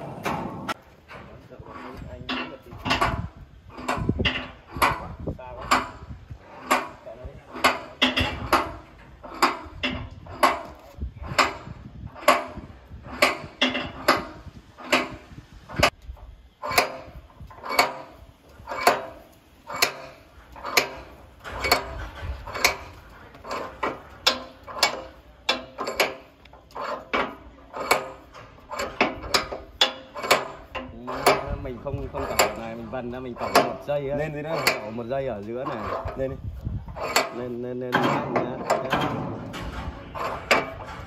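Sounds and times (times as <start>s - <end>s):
sharp metallic clanks: 0.0s - 41.0s.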